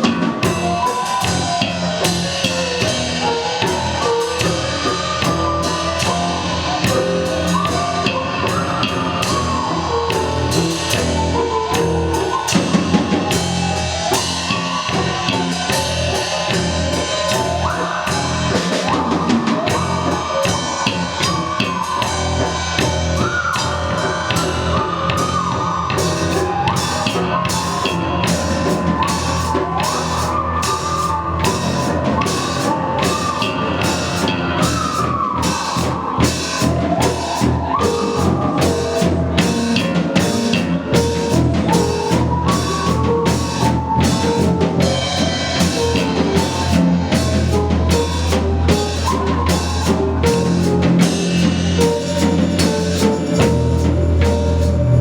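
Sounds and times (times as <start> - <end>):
driving drum kit: 0.0 - 55.0
live rock band: 0.0 - 55.0
sliding lead melody: 0.0 - 55.0.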